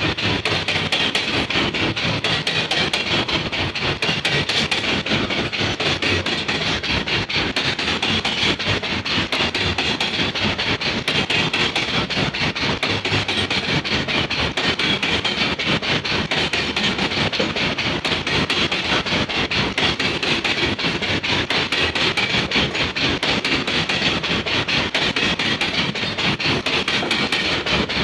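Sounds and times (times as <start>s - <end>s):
wagon wheels clattering over rails: 0.0s - 28.0s.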